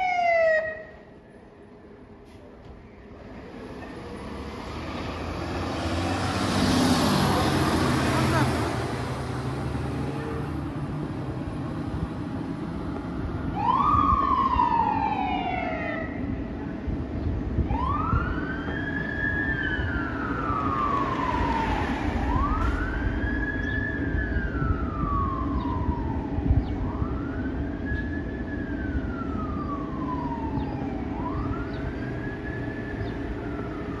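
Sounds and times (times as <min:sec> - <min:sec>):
fire engine siren wailing: 0:00.0 - 0:01.1, 0:04.1 - 0:16.6, 0:17.5 - 0:34.0
low engine and traffic rumble: 0:00.0 - 0:34.0.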